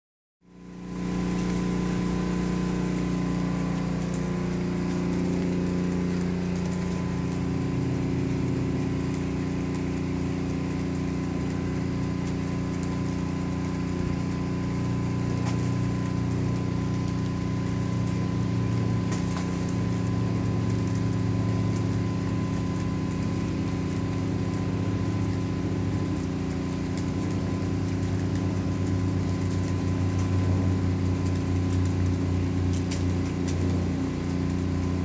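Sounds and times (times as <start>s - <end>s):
low mechanical hum: 0.4s - 35.0s
water dripping: 0.5s - 35.0s.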